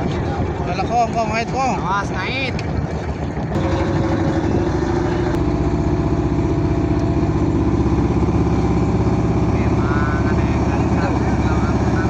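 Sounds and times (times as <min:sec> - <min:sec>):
small boat engine running: 0:00.0 - 0:12.0.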